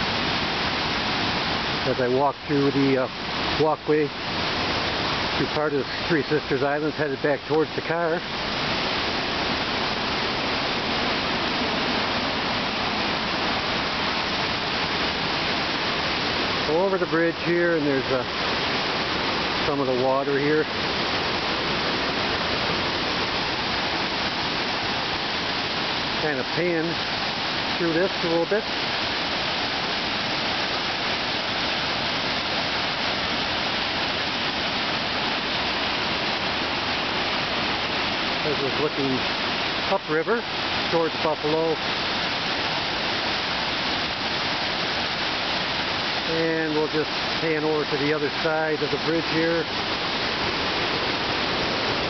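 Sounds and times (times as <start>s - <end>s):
loud rush of churning water: 0.0s - 52.0s
river rapids roaring: 0.0s - 52.0s.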